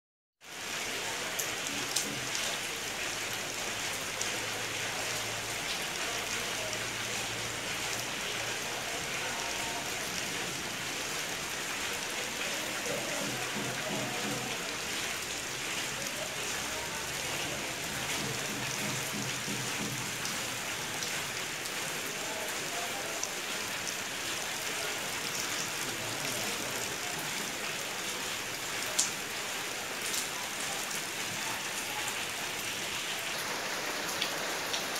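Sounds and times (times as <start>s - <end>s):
rain on concrete: 0.4s - 34.9s
rain splashing into pots: 0.4s - 34.9s.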